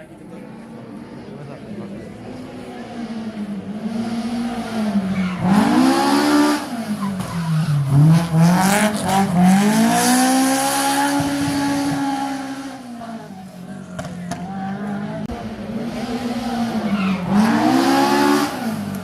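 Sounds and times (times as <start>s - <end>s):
car engine at high revs: 0.2s - 19.0s.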